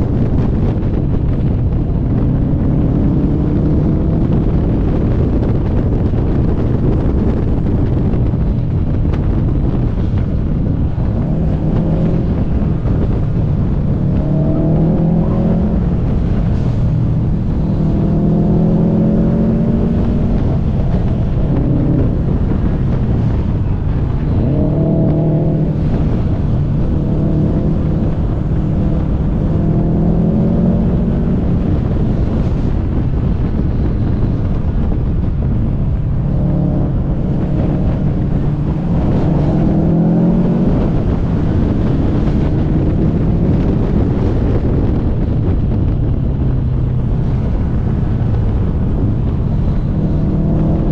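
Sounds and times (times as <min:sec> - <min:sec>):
car engine revving: 0:00.0 - 0:50.9
road and wind noise: 0:00.0 - 0:50.9.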